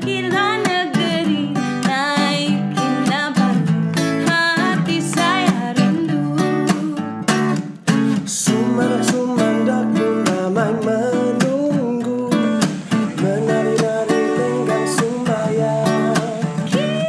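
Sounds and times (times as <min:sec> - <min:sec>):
strummed acoustic guitar music: 0:00.0 - 0:17.0.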